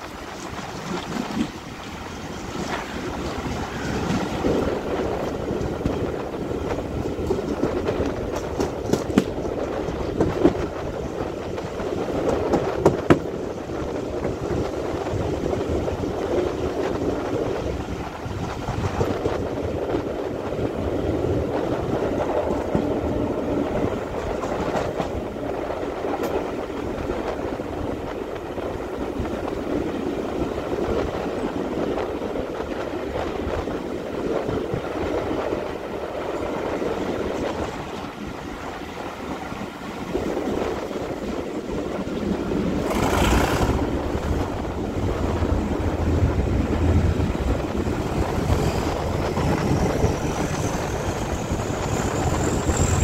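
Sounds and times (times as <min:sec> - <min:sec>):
sharp clicks over rails: 0:00.0 - 0:53.0
train wheels rumbling on rail: 0:00.0 - 0:53.0.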